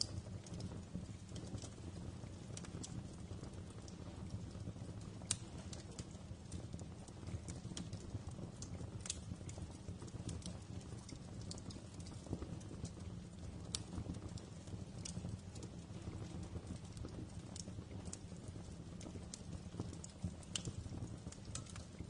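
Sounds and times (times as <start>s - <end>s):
fire rumbling: 0.0s - 22.0s
wood fire crackling: 0.0s - 22.0s.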